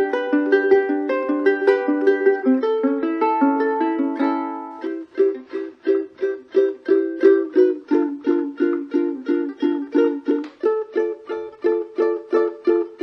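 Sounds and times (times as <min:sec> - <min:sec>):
ukulele strumming: 0:00.0 - 0:13.0.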